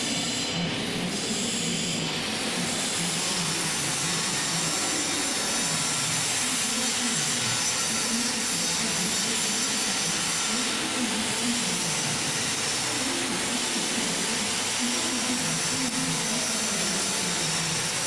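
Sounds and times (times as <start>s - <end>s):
mixer hissing: 0.0s - 18.0s.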